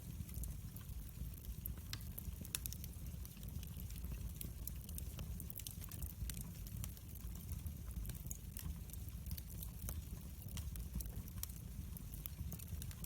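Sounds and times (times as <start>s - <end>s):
fire snaps and pops: 0.0s - 13.0s
low rumble of flames: 0.0s - 13.0s.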